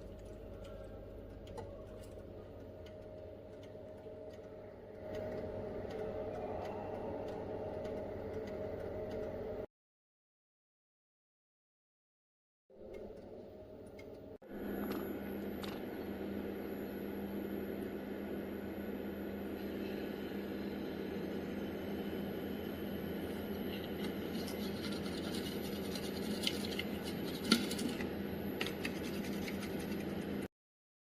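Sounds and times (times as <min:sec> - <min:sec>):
machine hum: 0:00.0 - 0:09.7, 0:12.7 - 0:30.5.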